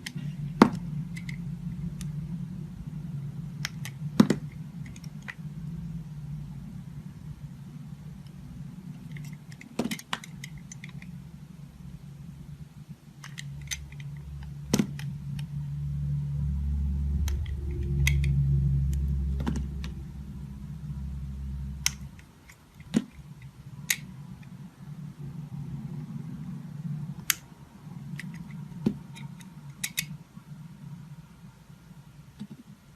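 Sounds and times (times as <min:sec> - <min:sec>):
low hum: 0:00.0 - 0:09.6, 0:10.3 - 0:32.9.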